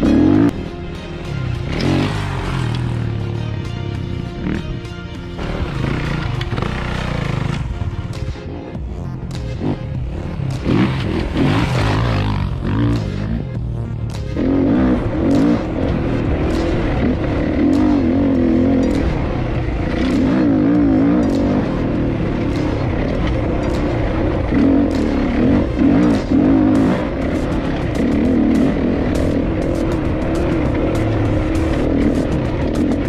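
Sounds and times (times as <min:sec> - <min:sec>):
dirt bike engine revving: 0:00.0 - 0:00.7, 0:01.6 - 0:03.5, 0:04.2 - 0:07.9, 0:09.6 - 0:33.0.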